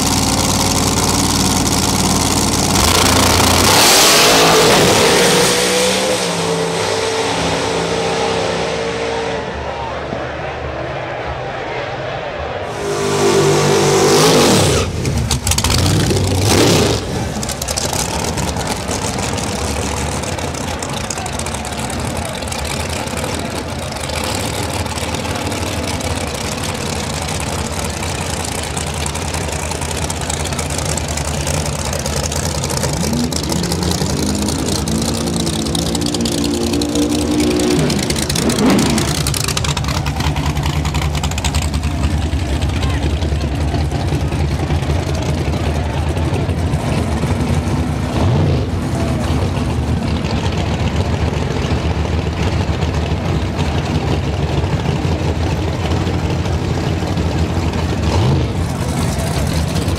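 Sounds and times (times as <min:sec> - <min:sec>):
race car engine revving: 0:00.0 - 0:10.8, 0:12.6 - 0:59.9.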